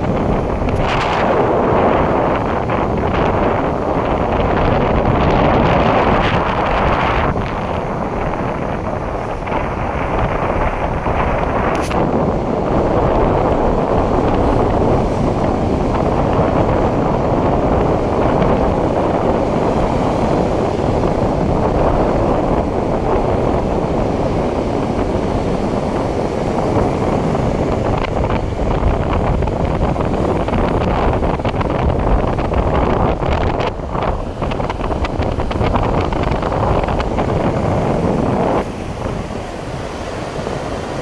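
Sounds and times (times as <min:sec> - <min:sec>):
surf rushing on a shore: 0:00.0 - 0:41.0
wind buffeting the microphone: 0:00.0 - 0:41.0.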